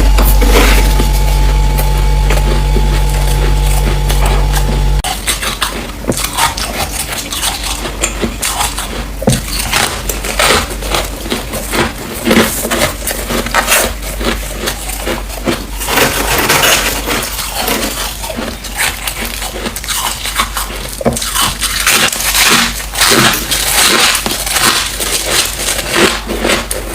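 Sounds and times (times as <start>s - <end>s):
freezer frost crunching: 0.0s - 26.9s.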